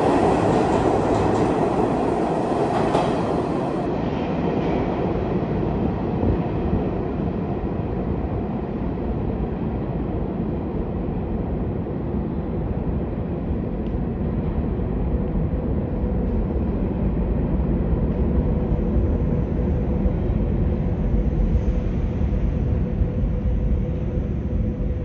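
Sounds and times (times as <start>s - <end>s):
subway train rumbling in tunnel: 0.0s - 25.0s.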